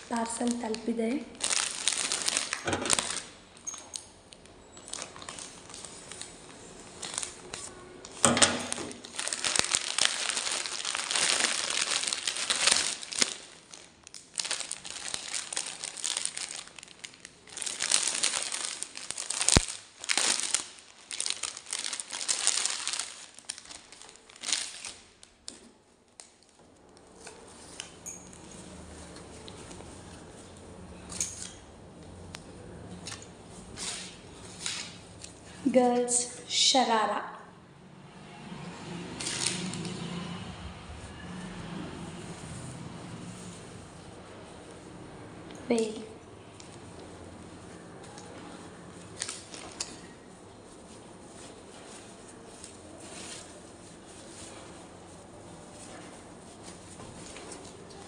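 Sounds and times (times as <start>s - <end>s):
plastic packaging crinkling: 0.0s - 31.6s, 33.0s - 36.2s, 39.2s - 40.2s, 45.8s - 58.0s.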